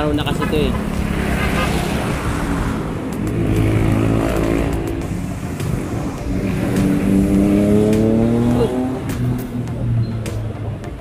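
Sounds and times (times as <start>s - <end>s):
vehicle engines passing and accelerating: 0.0s - 11.0s.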